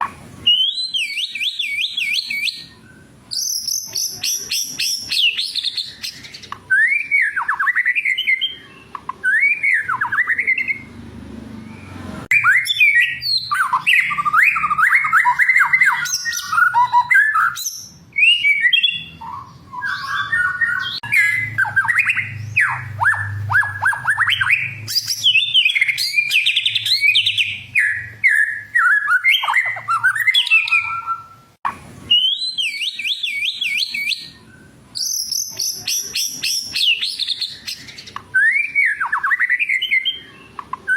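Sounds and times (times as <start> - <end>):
bird singing whistles and trills: 0.4 - 10.9, 11.6 - 40.9.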